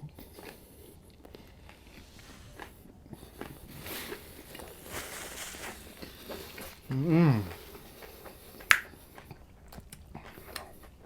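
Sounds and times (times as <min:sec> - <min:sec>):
person chewing a sandwich: 0:00.0 - 0:11.0.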